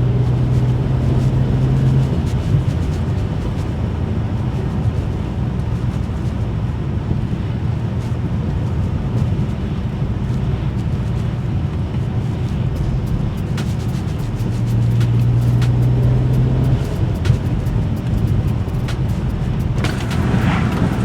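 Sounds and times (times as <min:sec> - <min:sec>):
car engine cruising: 0:00.0 - 0:21.0
tyre and road noise: 0:00.0 - 0:21.0.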